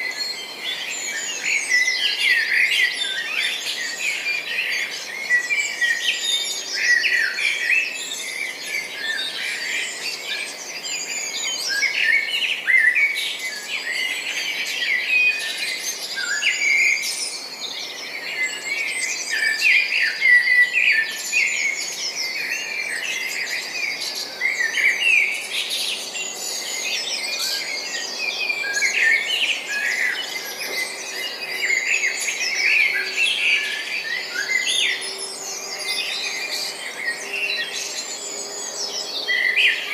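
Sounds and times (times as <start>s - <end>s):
songbirds chirping in chorus: 0.0s - 39.9s.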